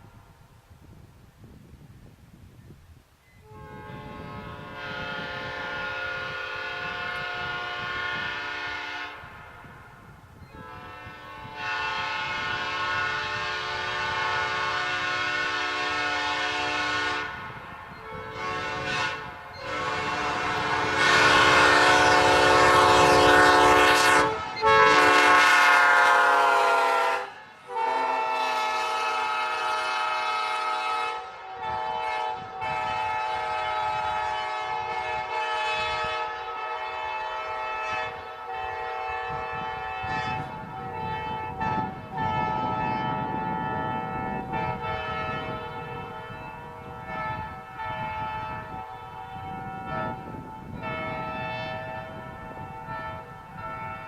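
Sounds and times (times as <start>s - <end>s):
locomotive air horn blasts: 3.4s - 9.8s, 10.4s - 54.0s.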